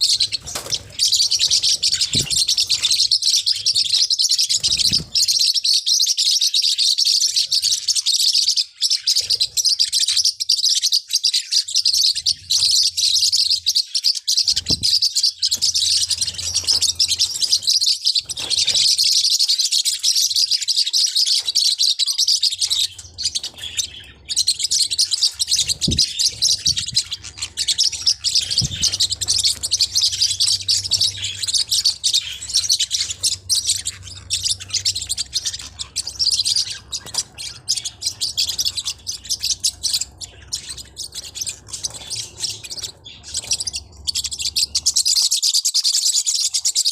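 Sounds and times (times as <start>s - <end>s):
parrotlet chirping and chattering: 0.0s - 46.9s.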